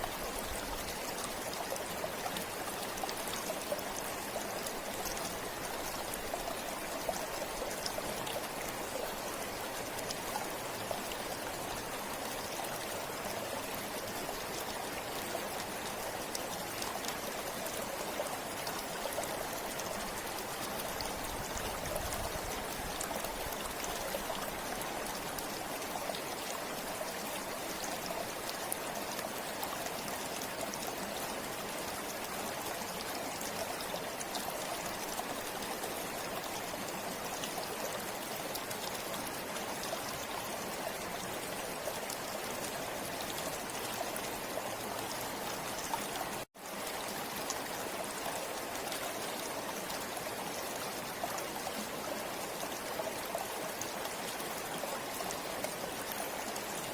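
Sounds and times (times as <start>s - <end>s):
river flowing: 0.0s - 56.9s.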